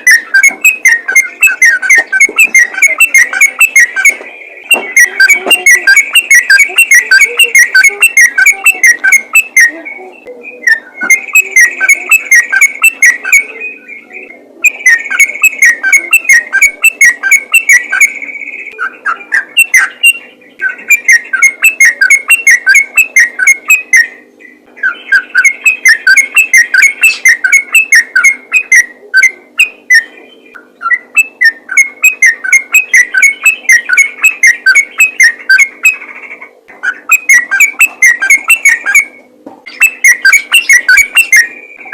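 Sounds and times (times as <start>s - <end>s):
bird singing chirpy notes: 0.0s - 41.9s.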